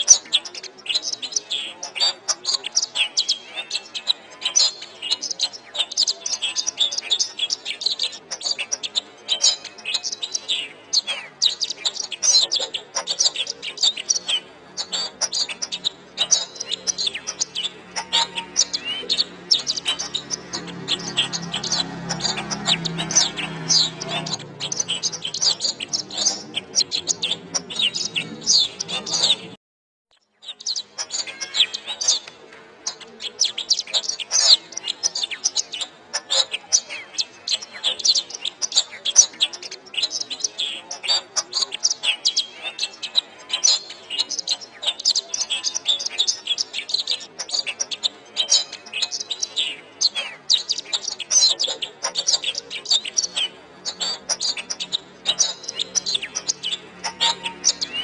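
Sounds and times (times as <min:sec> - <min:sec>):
canary singing: 0:00.0 - 0:29.6, 0:30.2 - 0:58.0.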